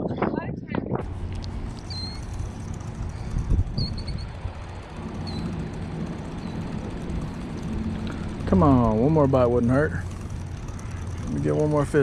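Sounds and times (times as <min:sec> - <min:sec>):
steady low hum: 0:00.8 - 0:12.0.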